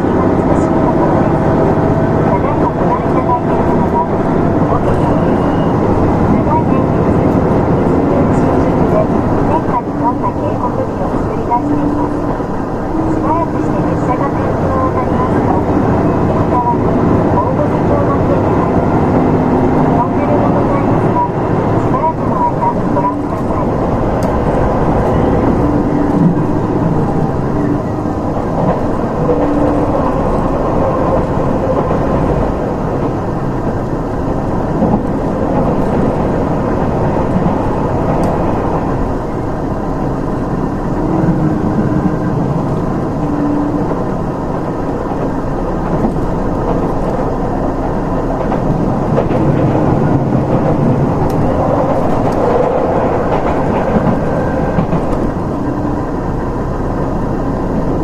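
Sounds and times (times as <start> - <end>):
diesel engine humming: 0.0 - 58.0
train wheels rumbling on rails: 0.0 - 58.0.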